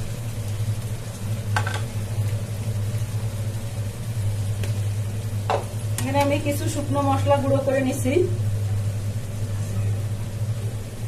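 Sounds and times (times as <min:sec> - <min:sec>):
onions sizzling in oil: 0:00.0 - 0:11.0
steady low hum: 0:00.0 - 0:11.0.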